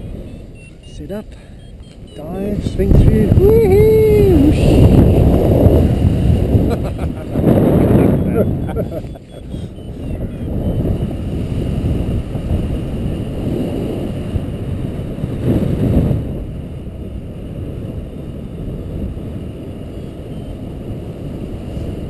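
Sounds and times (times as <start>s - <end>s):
wind rushing over microphone: 2.0s - 22.0s.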